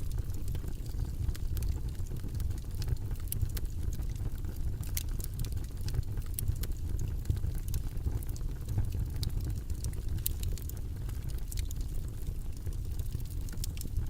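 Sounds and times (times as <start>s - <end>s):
low rumbling white noise: 0.0s - 14.0s.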